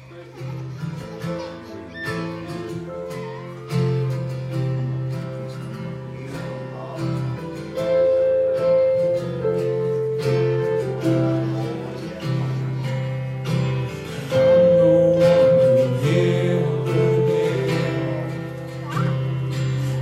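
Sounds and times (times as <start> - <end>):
strummed acoustic guitar: 0.0 - 20.0
held bass notes: 2.6 - 20.0.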